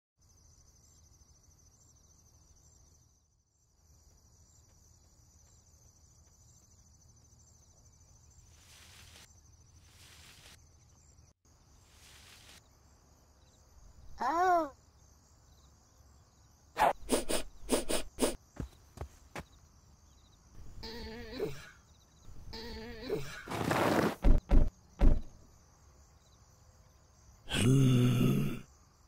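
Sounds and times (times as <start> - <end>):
crickets chirping: 0.2 - 29.0.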